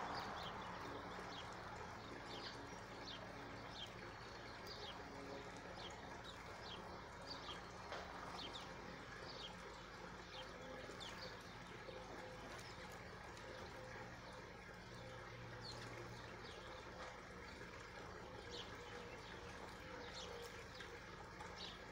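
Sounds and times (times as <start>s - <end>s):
small birds chirping: 0.0s - 21.9s
steady low hum: 0.0s - 21.9s.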